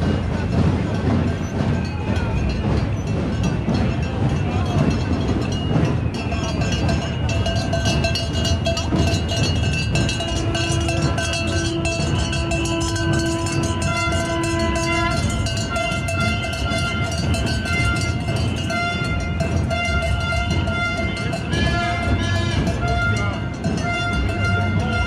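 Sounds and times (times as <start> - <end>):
crowd voices: 0.0 - 25.0
long steady tones: 0.0 - 25.0.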